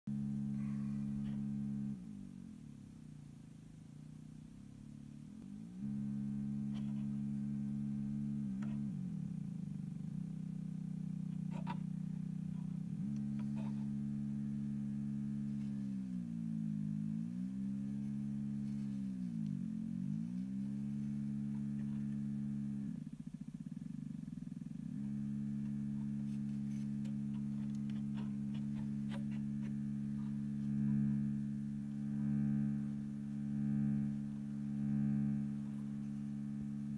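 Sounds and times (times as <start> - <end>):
low synthesizer tone: 0.1 - 36.9.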